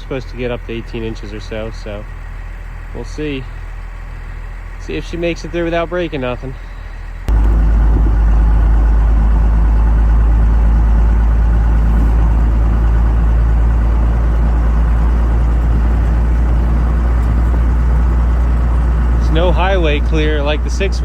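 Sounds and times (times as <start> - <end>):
diesel truck engine drone: 0.0 - 21.0.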